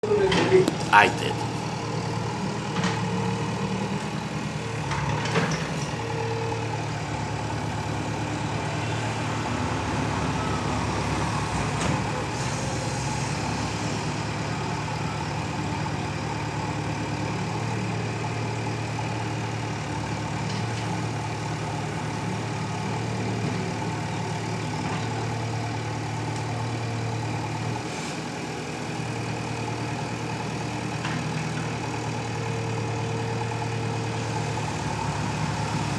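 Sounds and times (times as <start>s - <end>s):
heavy diesel engine running: 0.0s - 35.9s.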